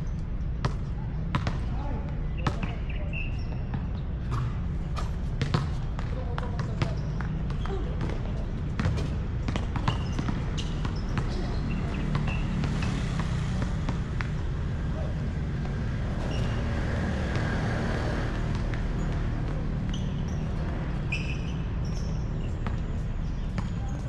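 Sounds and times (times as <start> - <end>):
basketball bouncing: 0.6 - 1.7, 2.4 - 2.8, 3.5 - 24.0.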